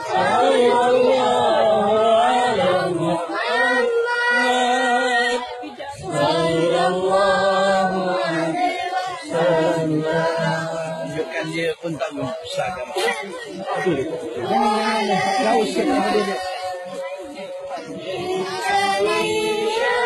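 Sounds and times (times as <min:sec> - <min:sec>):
voices chanting a devotional song: 0:00.0 - 0:20.0.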